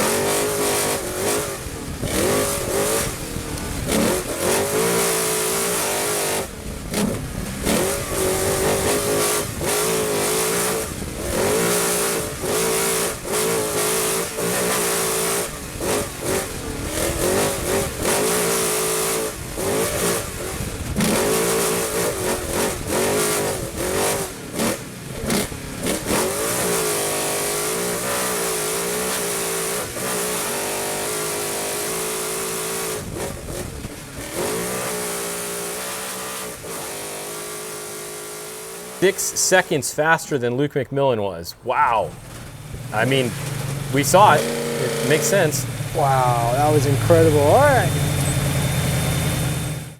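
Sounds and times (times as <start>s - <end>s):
truck engine revving: 0.0s - 32.7s, 42.1s - 49.9s
rushing wind and tyres: 0.0s - 39.0s, 42.1s - 49.9s.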